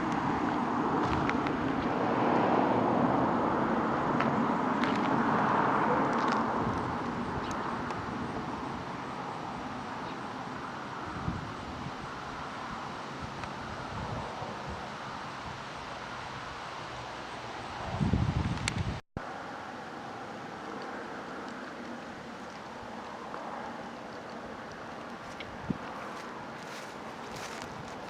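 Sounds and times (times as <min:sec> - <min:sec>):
vehicle passing on road: 0:00.0 - 0:28.0.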